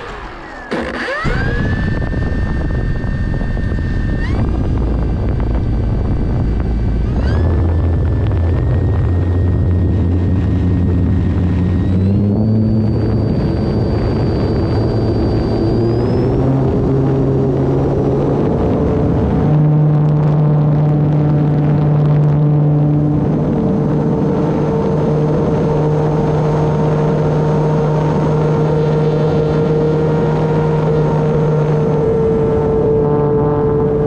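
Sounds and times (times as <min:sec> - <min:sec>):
low rumble: 0:00.0 - 0:34.0
model plane motor droning: 0:00.0 - 0:34.0.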